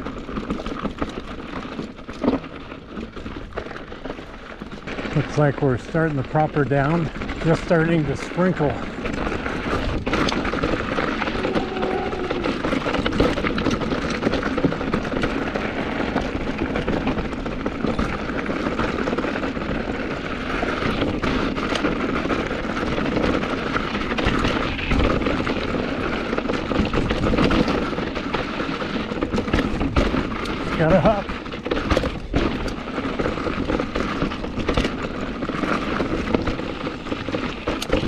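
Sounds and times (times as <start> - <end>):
bike rattling: 0.0 - 38.0
rushing rumble: 3.1 - 38.0.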